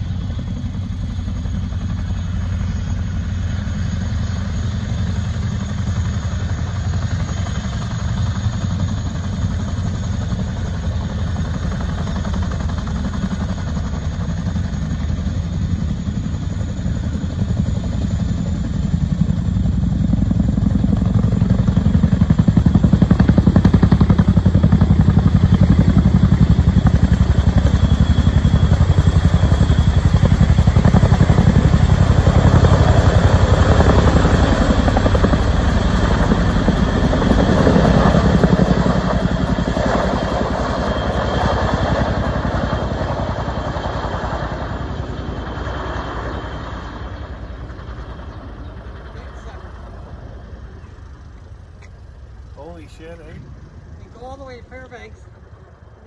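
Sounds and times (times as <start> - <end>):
faint turbine whine: 0.0 - 56.0
helicopter engine noise: 0.0 - 56.0
helicopter rotor beat: 0.0 - 56.0.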